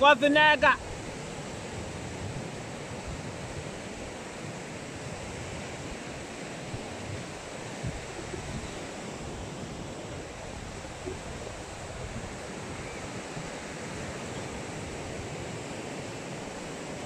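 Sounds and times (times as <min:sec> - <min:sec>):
ocean surf breaking on beach: 0:00.0 - 0:17.0
wind gusting on microphone: 0:00.7 - 0:17.0.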